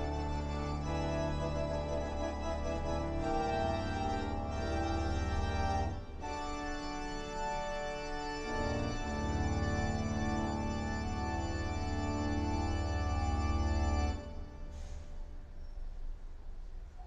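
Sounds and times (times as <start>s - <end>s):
pipe organ chords: 0.0s - 16.0s.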